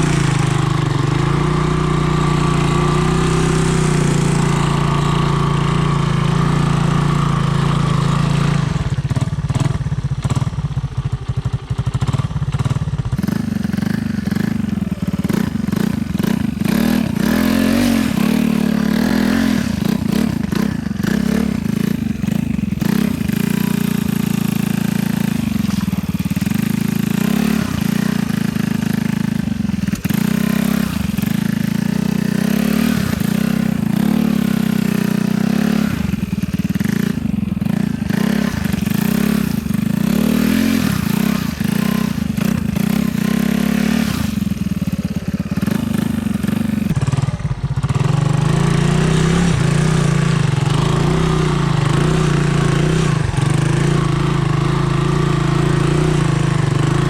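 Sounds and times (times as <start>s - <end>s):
motorbike engine running: 0.0s - 57.0s.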